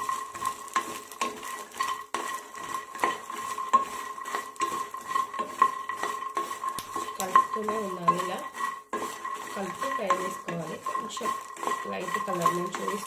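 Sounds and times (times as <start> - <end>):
spatula scraping a frying pan: 0.0 - 13.0.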